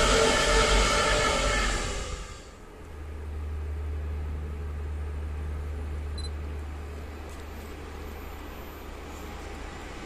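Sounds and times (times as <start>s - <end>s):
freight train drone: 0.0s - 10.0s.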